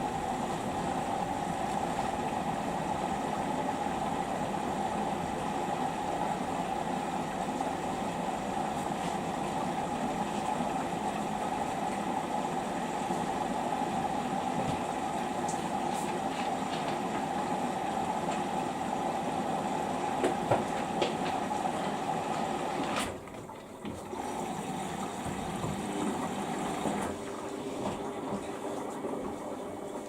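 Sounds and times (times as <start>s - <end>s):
washing machine filling with water: 0.0s - 30.0s.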